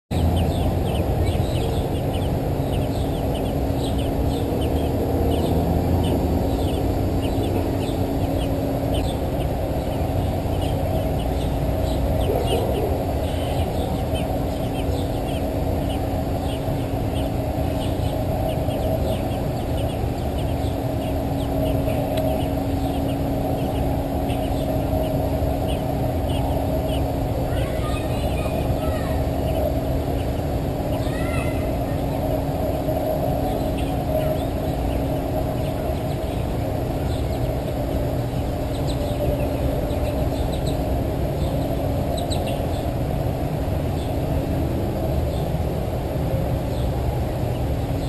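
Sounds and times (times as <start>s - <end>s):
birds chirping: 0.1s - 48.0s
low rumble with hum: 0.1s - 48.0s.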